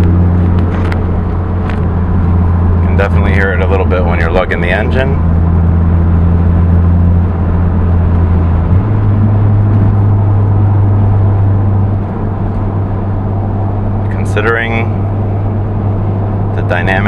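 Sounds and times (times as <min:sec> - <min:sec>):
car engine humming at low revs: 0:00.0 - 0:17.0.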